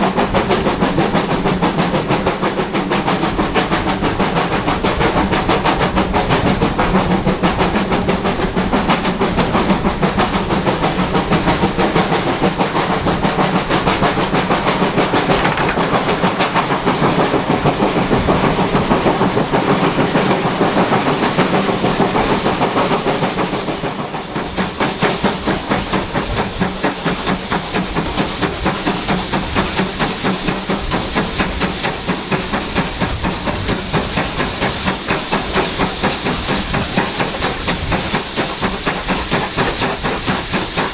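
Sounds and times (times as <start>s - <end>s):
steam hissing: 0.0s - 40.9s
steam locomotive exhaust chuffs: 0.0s - 40.9s.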